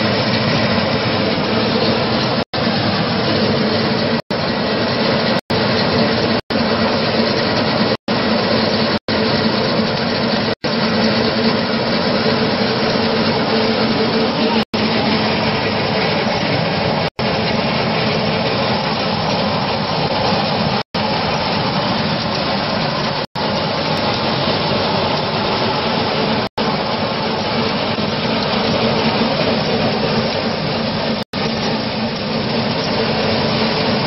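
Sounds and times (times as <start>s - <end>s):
grain mill running: 0.0s - 34.0s
low motor hum: 0.0s - 34.0s.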